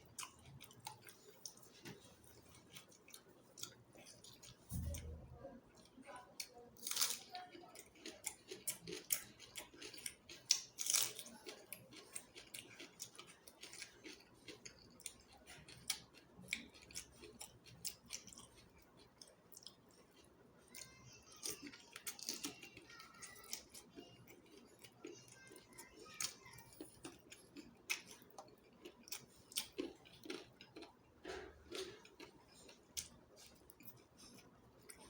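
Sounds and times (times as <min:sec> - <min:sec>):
person chewing and crunching: 0:00.0 - 0:05.2, 0:05.8 - 0:35.0.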